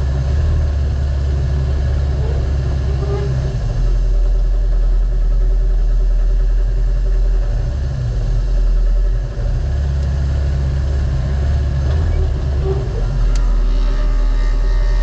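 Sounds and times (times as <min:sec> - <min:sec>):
engine running with low drone: 0:00.0 - 0:15.0.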